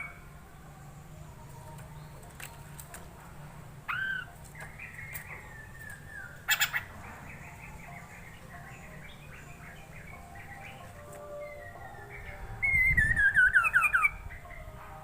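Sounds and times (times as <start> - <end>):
bird singing varied song: 0.0 - 15.0.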